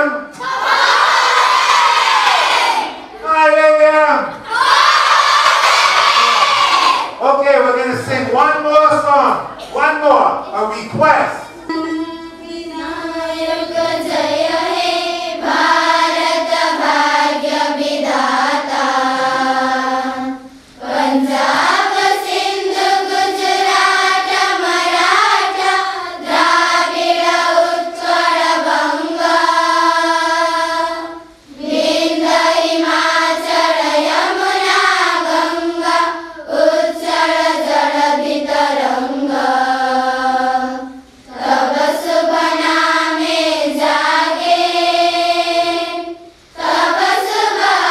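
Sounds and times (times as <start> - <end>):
children singing in unison: 0.0 - 3.2, 4.4 - 7.2, 11.5 - 47.9.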